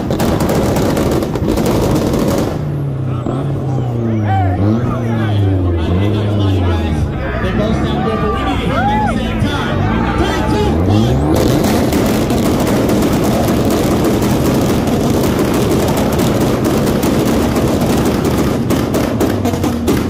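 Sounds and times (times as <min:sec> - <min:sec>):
exhaust crackle: 0:00.0 - 0:07.6, 0:08.7 - 0:20.0
car engine revving high: 0:00.1 - 0:20.0.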